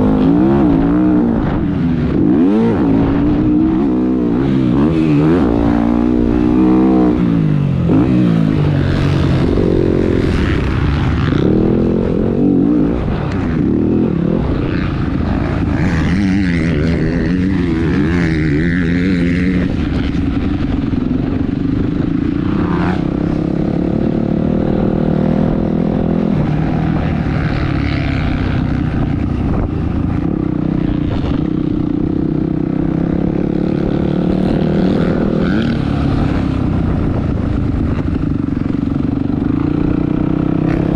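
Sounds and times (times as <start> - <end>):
dirt bike engine revving: 0.0 - 37.2, 37.8 - 40.9.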